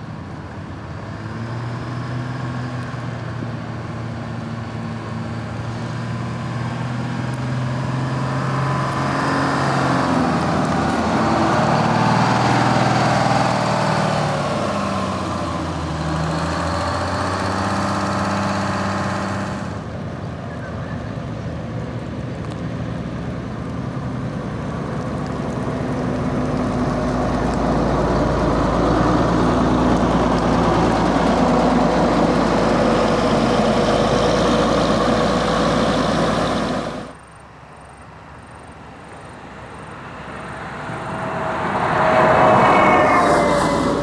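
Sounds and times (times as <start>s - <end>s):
bus tyres on road: 0.0s - 44.0s
diesel bus engine running: 0.0s - 44.0s.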